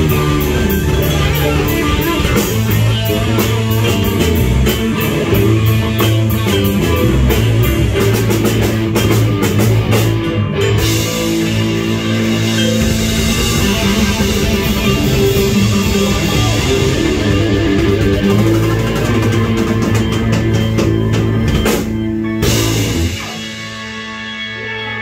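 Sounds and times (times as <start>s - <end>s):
live rock band: 0.0s - 25.0s.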